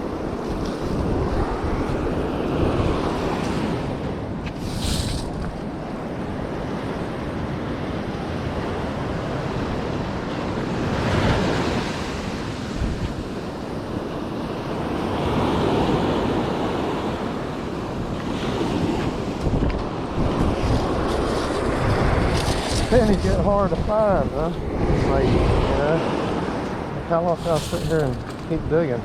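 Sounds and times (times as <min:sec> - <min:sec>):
ocean surf washing up beach: 0:00.0 - 0:29.0
wind buffeting microphone: 0:00.0 - 0:29.0.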